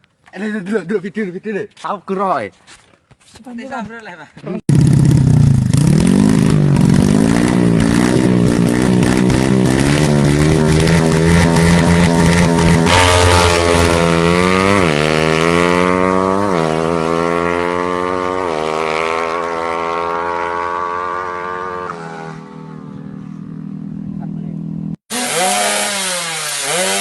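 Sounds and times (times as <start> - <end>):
motorcycle engine accelerating: 4.5 - 27.0.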